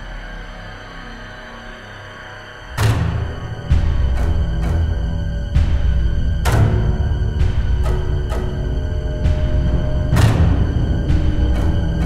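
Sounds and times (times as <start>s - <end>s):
dark low droning music: 0.0s - 12.0s.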